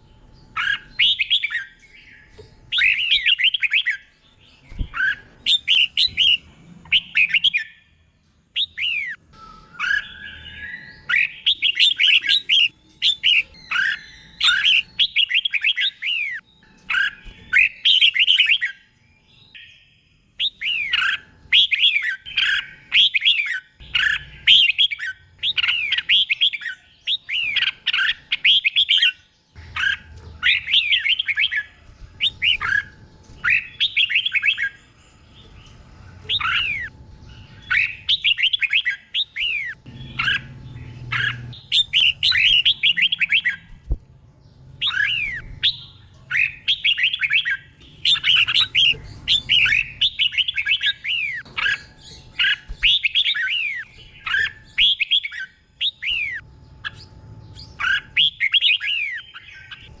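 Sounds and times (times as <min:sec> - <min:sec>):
bulbul singing whistled notes: 0:08.6 - 0:35.3, 0:36.3 - 0:43.8, 0:44.8 - 0:59.9.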